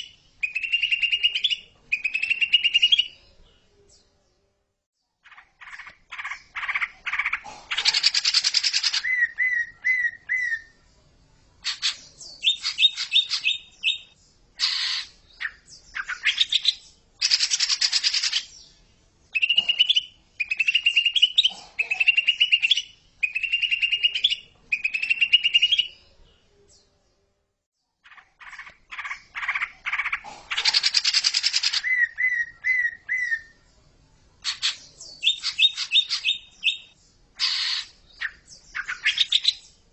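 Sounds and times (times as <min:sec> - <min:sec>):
bird song with chattering trills: 0:00.0 - 0:04.2, 0:05.0 - 0:10.8, 0:11.6 - 0:27.0, 0:27.8 - 0:33.8, 0:34.4 - 0:39.8.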